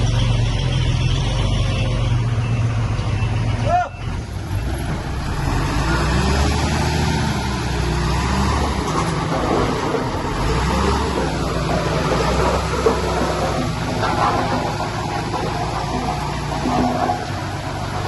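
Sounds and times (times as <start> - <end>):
dense mechanical noise: 0.0 - 18.0
diesel engine running: 0.0 - 18.0.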